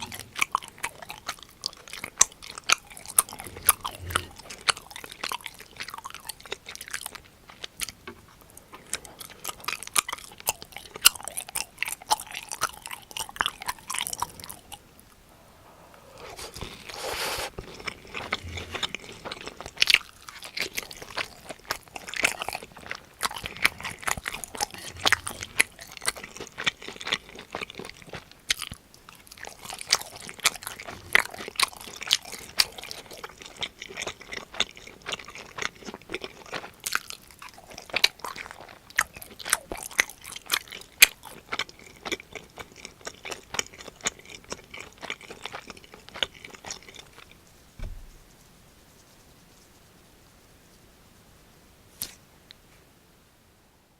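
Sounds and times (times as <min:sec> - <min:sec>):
crunchy food chewing: 0:00.0 - 0:15.3, 0:16.1 - 0:49.7.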